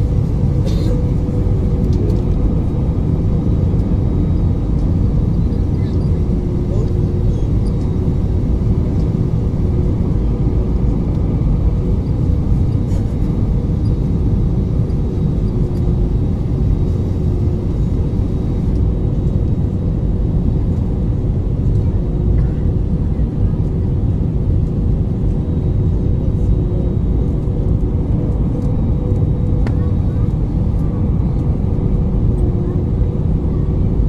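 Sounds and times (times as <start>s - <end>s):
jet engines rumbling in cabin: 0.0s - 34.0s.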